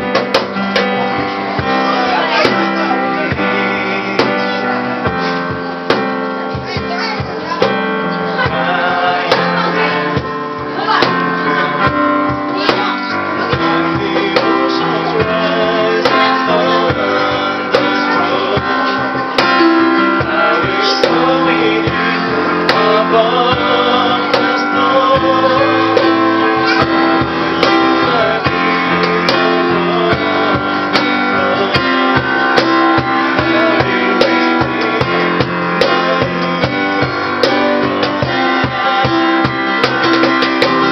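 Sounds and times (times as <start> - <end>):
cajon hits: 0.0 - 3.5, 4.2 - 8.7, 9.3 - 23.6, 24.3 - 40.9
acoustic guitar playing: 0.0 - 40.9
man singing: 0.0 - 40.9.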